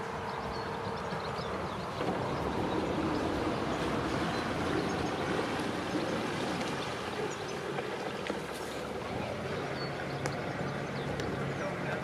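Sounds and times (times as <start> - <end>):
boat engine running low: 0.0 - 12.0
water churning and trickling: 0.0 - 12.0.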